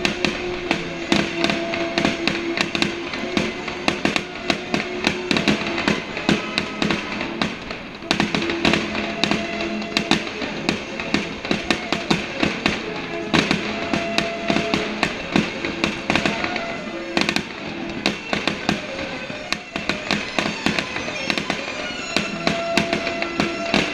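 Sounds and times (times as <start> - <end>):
fireworks bangs and crackles: 0.0 - 23.9
music with held notes: 0.0 - 23.9.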